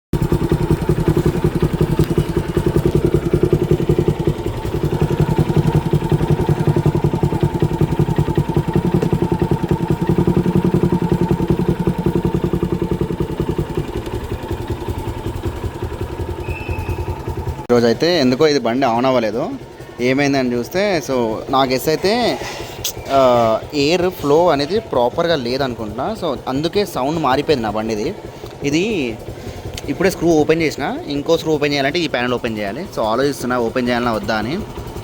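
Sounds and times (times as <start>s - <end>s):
motorcycle engine idling: 0.2s - 35.0s.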